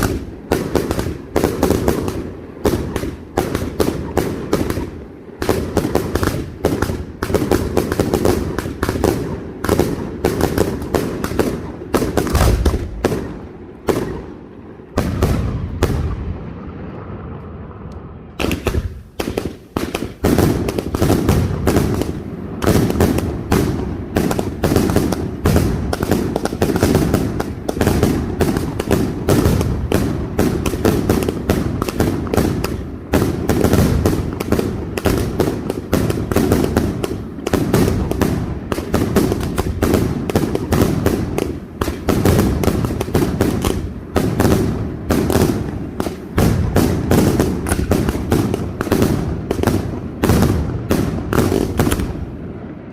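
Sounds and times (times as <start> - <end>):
fireworks exploding: 0.0 - 52.9.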